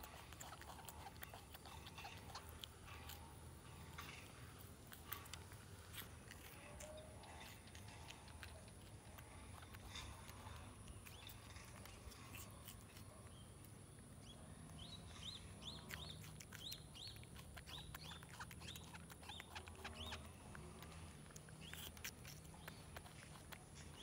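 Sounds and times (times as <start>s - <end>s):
small animal chirping: 0.0s - 24.0s.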